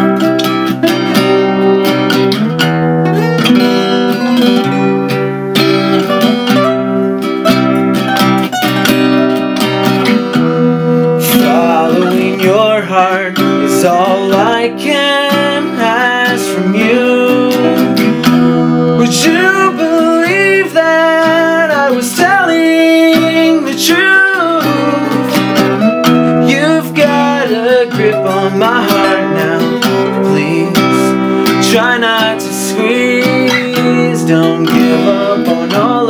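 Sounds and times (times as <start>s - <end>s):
acoustic guitars playing: 0.0s - 36.0s.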